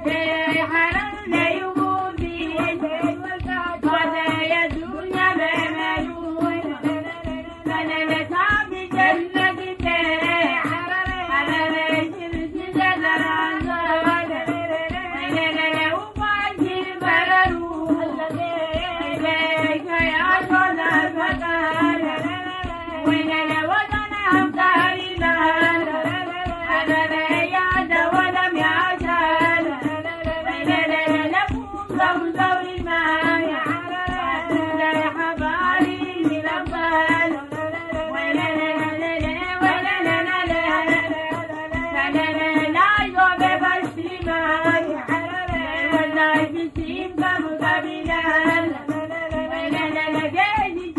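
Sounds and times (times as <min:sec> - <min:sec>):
hand drum beat: 0:00.0 - 0:50.9
women singing together: 0:00.0 - 0:50.9.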